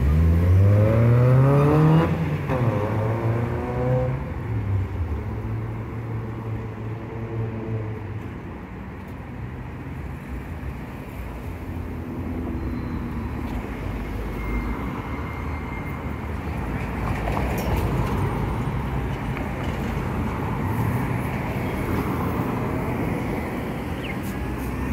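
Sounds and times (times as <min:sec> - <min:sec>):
cars driving by: 0:00.0 - 0:24.9
road noise: 0:00.0 - 0:24.9.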